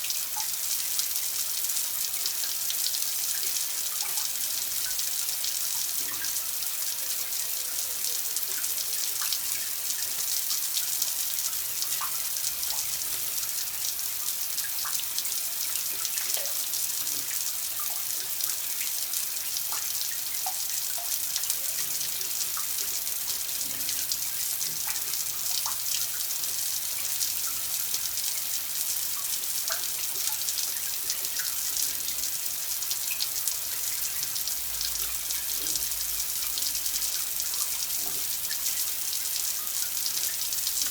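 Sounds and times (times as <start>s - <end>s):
water running: 0.0s - 40.9s.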